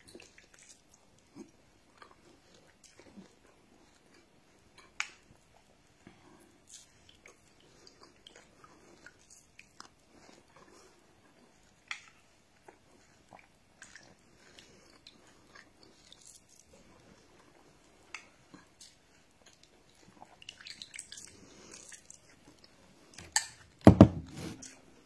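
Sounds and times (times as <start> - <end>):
chewing and mouth sounds: 0.0 - 23.6.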